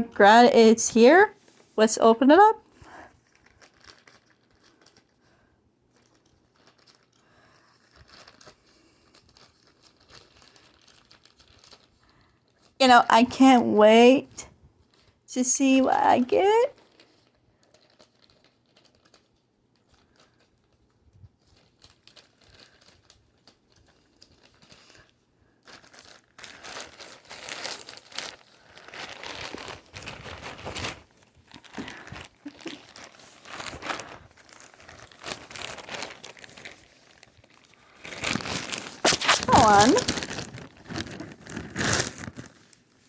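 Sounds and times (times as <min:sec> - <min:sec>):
plastic packaging crinkling and tearing: 0:02.7 - 0:12.8, 0:14.8 - 0:43.0.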